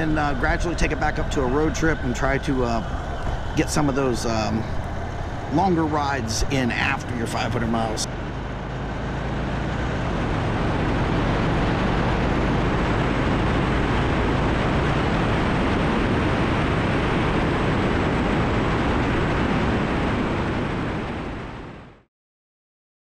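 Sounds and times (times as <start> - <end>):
motorcycle engine running: 0.0 - 20.7
wind rushing over microphone: 0.0 - 22.0.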